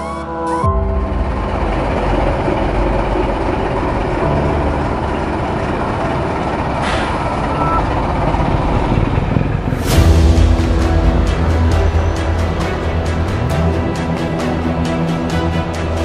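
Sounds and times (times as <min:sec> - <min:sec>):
truck diesel engine running: 0:00.5 - 0:16.0.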